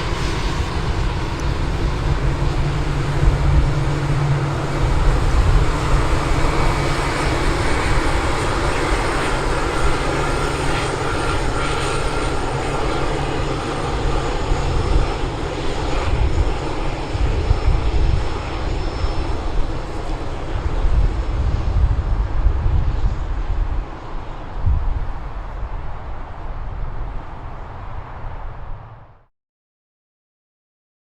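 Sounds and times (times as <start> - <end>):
jet engines running: 0.0 - 29.2.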